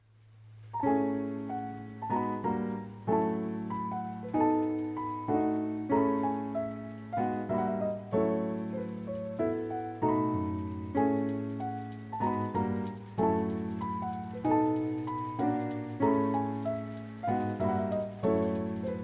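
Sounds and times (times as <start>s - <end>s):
gentle piano melody: 0.7s - 19.0s.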